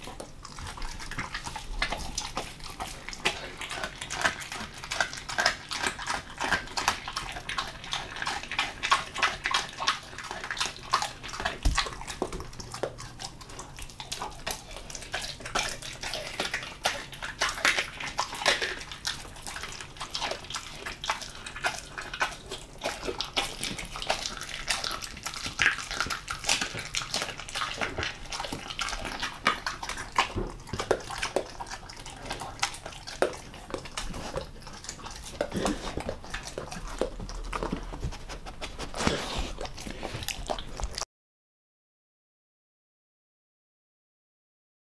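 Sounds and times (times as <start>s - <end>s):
dog chewing wetly: 0.0s - 41.0s.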